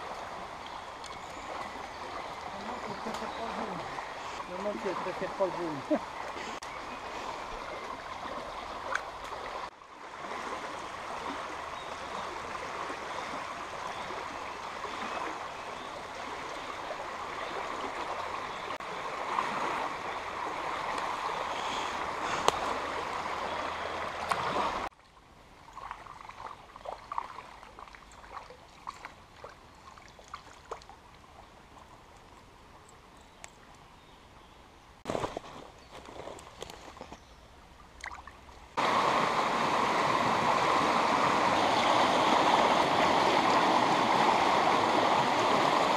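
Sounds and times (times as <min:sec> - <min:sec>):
river water running over stones: 0:00.0 - 0:33.9, 0:35.0 - 0:45.9.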